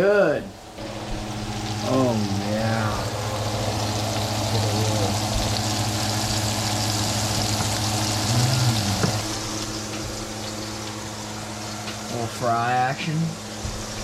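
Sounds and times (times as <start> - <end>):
steady low hum: 0.0 - 14.0
food sizzling in a pan: 0.7 - 12.5.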